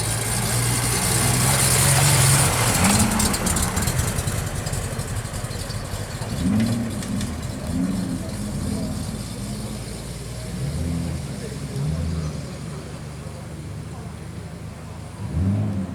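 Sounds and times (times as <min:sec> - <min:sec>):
car engine running: 0:00.0 - 0:15.9.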